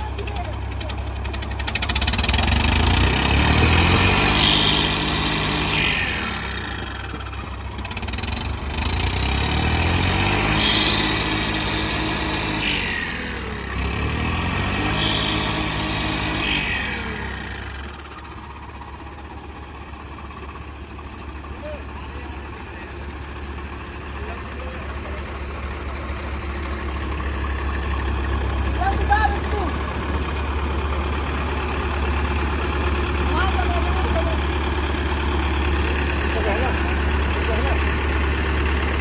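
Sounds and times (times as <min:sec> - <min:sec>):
diesel tractor engines revving: 0:00.0 - 0:39.0.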